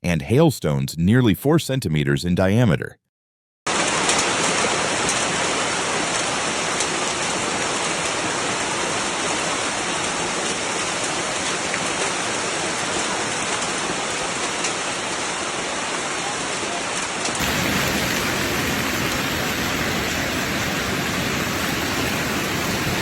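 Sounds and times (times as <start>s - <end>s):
heavy rain pouring: 3.7s - 23.0s.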